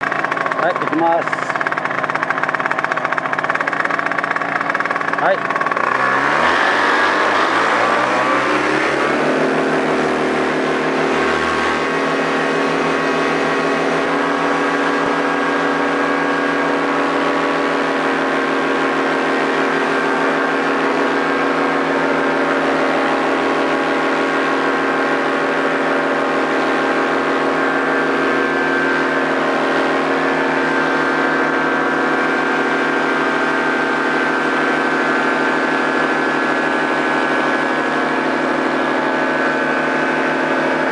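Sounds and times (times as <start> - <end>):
paramotor engine revving: 0.0 - 40.9.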